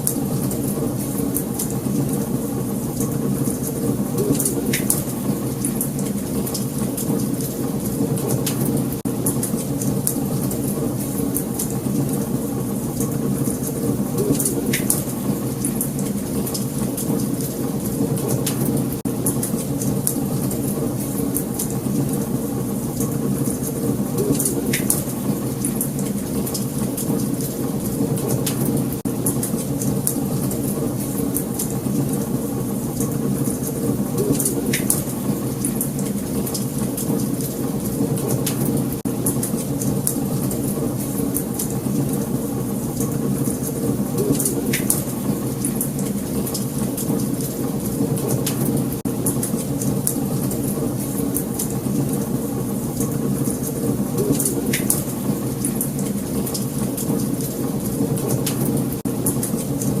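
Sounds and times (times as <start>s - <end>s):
wood fire crackling and popping: 0.0s - 60.0s.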